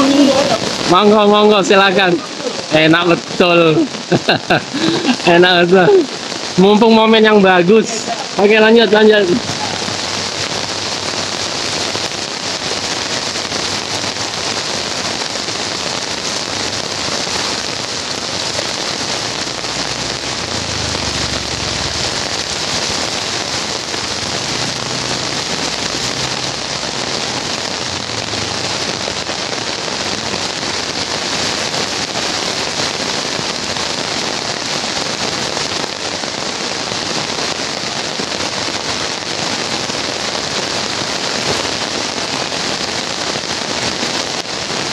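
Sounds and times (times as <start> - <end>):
heavy rain on pavement: 0.0 - 44.9.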